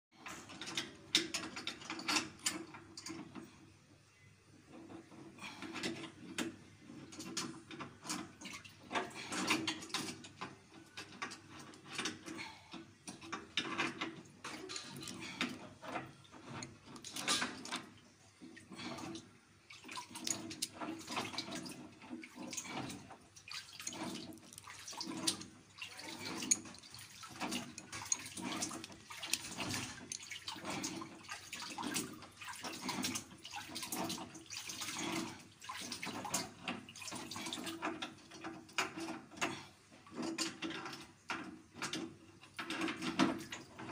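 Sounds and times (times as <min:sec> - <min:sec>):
water dripping and splashing: 0:07.1 - 0:43.8.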